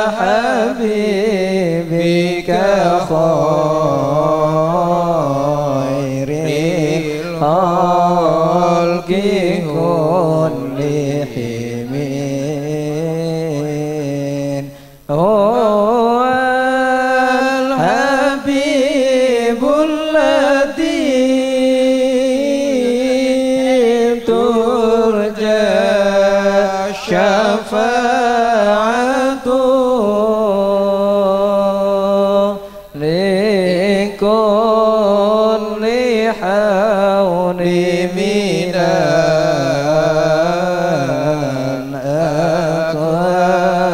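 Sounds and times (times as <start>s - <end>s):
person singing chant-like melody: 0.0s - 43.9s.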